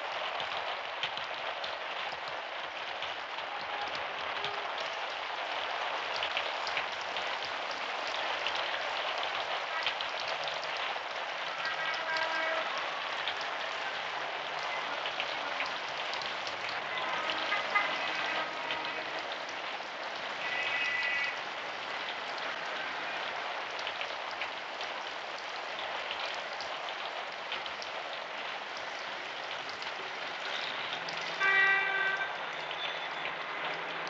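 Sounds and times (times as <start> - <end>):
steady rain on a street: 0.0 - 34.0.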